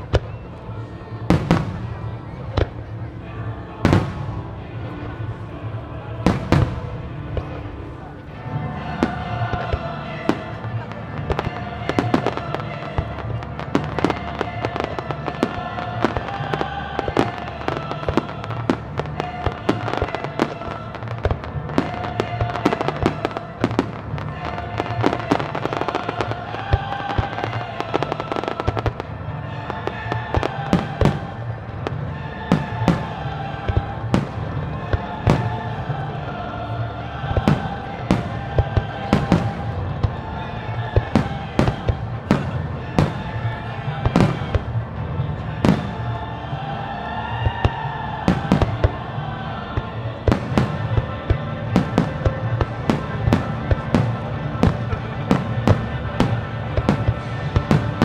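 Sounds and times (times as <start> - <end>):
fireworks bursting: 3.8 - 58.0.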